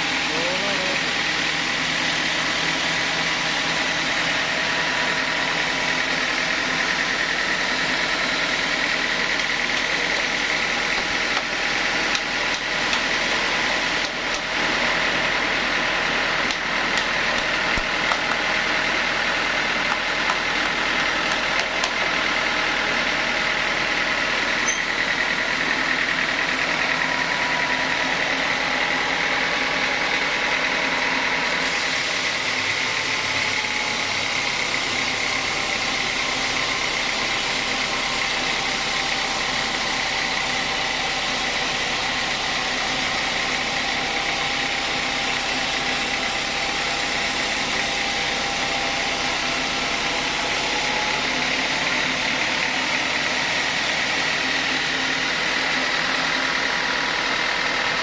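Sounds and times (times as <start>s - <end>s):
sawmill saw whining: 0.0s - 58.0s.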